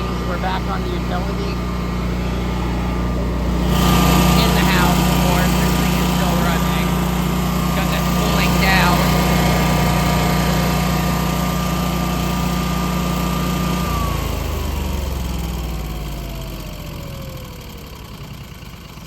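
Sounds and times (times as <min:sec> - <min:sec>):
generator whine falling in pitch: 0:00.0 - 0:18.9
generator shutting down: 0:00.0 - 0:19.0.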